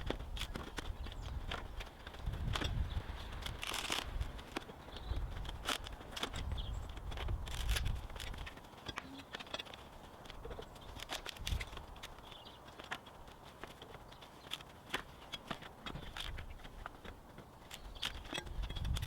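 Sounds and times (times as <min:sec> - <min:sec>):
boards and nails cracking: 0:00.0 - 0:19.0.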